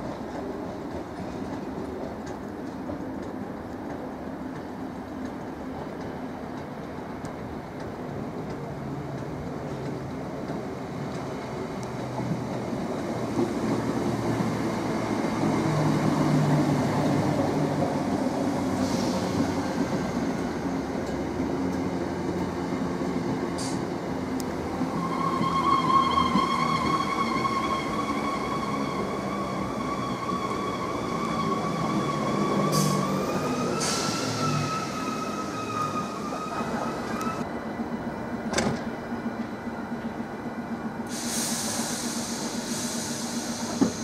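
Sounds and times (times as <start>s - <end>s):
train wheels and motors rumbling: 0.0s - 44.0s.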